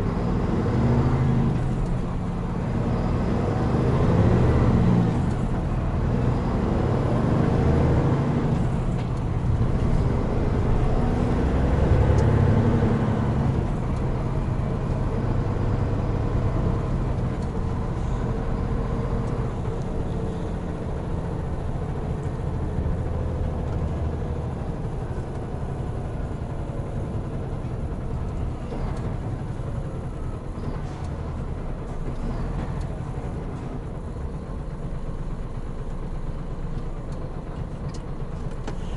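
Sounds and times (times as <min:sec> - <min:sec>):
road noise: 0:00.0 - 0:38.9
truck diesel engine running: 0:00.0 - 0:38.9.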